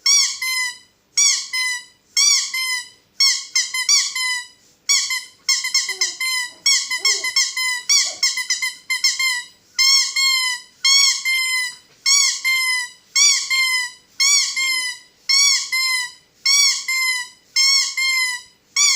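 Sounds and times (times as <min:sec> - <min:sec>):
rubber squeaky toy squeaking: 0:00.0 - 0:18.9.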